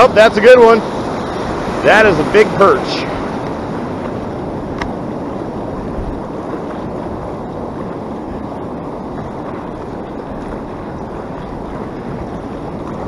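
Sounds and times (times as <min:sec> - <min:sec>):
ocean surf washing: 0:00.0 - 0:13.0
wind on microphone: 0:00.0 - 0:13.0.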